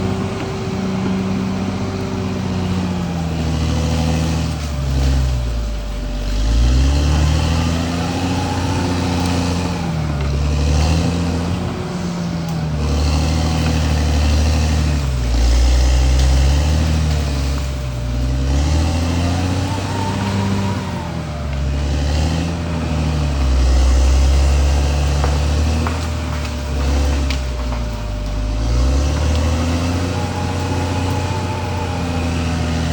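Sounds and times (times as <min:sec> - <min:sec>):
bulldozer diesel engine working: 0:00.0 - 0:32.9.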